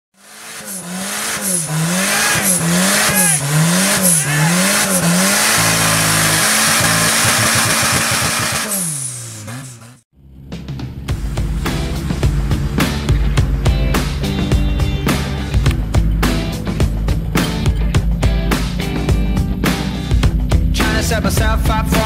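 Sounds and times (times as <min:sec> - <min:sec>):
engine revving: 0:00.1 - 0:22.0.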